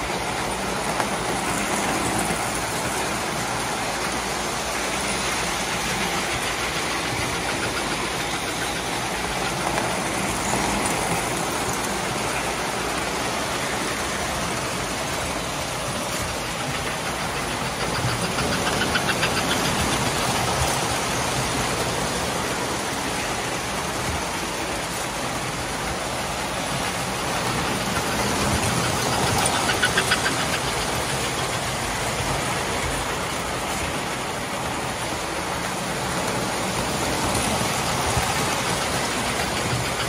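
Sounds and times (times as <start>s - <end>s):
model trains rattling on metal track: 0.0s - 40.0s
rapid clicking of passing train: 0.0s - 40.0s.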